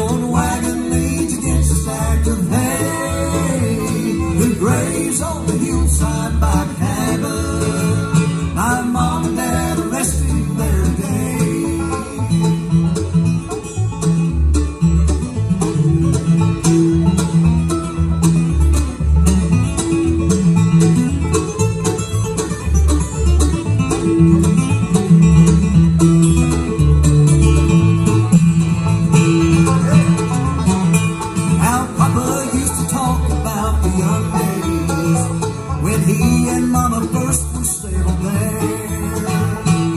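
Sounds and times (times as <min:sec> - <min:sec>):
acoustic guitar: 0:00.0 - 0:39.9
banjo: 0:00.0 - 0:39.9
fiddle: 0:00.0 - 0:39.9
mandolin: 0:00.0 - 0:39.9
upright bass: 0:00.0 - 0:39.9.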